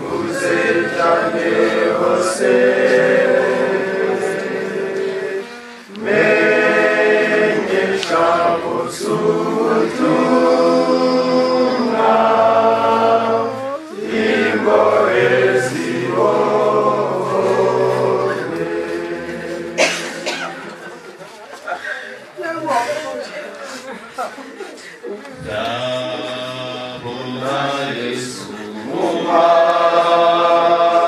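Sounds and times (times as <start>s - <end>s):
choir singing a hymn: 0.0s - 21.4s, 25.4s - 31.0s.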